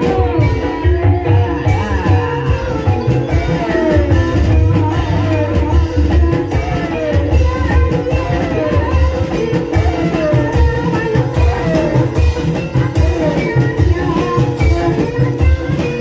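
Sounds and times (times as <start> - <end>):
person singing: 0.0 - 16.0.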